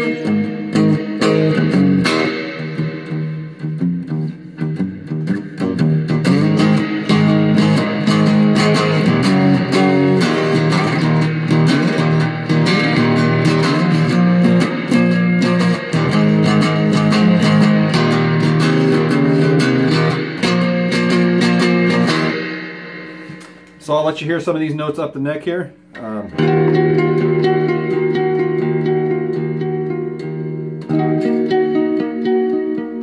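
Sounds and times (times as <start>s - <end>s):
guitar strumming chords: 0.0s - 33.0s.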